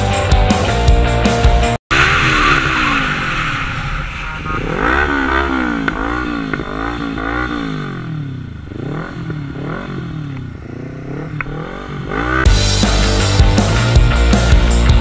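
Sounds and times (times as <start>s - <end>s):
motorcycle engine revving: 1.4s - 15.0s.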